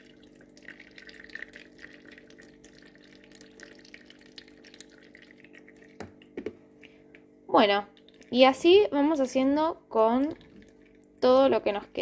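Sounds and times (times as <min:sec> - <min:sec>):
liquid dripping into bowl: 0:00.0 - 0:08.6, 0:10.2 - 0:11.3.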